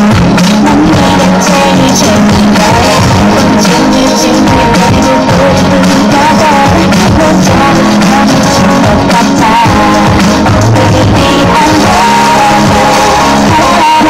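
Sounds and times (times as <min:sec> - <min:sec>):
pop dance music with vocals: 0:00.0 - 0:14.0.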